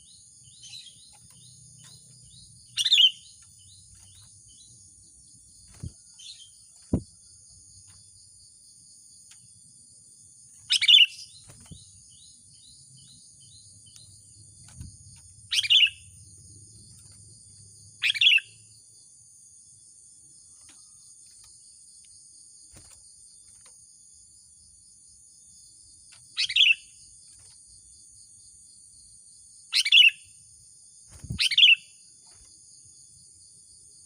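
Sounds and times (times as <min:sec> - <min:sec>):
high insect buzz: 0:00.0 - 0:34.0.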